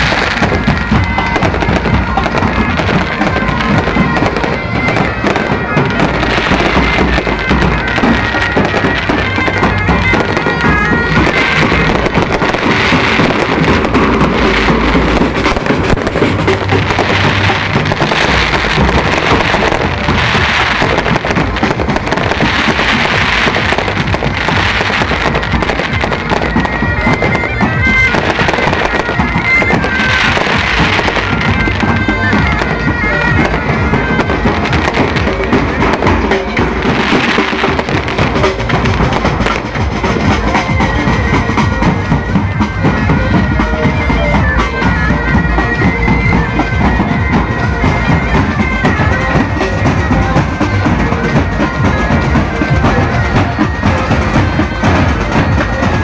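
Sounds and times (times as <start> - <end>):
bagpipes playing a tune: 0.0 - 56.0
bass drums beating: 0.0 - 56.0.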